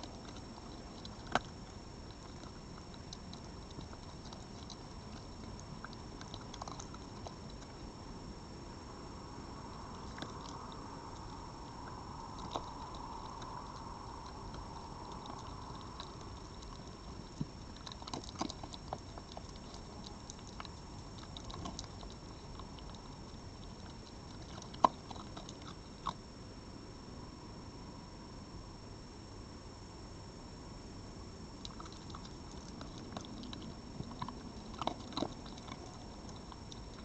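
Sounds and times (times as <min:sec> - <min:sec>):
animal chewing and crunching food: 0:00.0 - 0:08.0, 0:09.6 - 0:26.2, 0:31.6 - 0:37.0
steady hiss: 0:00.0 - 0:37.0.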